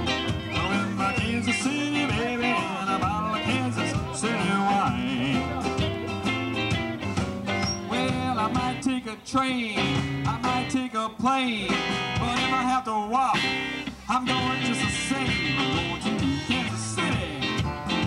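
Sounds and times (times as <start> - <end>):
electric guitar lead: 0.0 - 11.0, 11.6 - 18.0
live band playing: 0.0 - 18.0.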